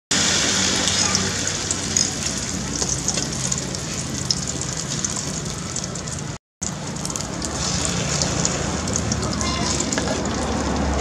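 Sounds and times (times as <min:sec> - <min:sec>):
omelette sizzling in oil: 0:00.1 - 0:11.0.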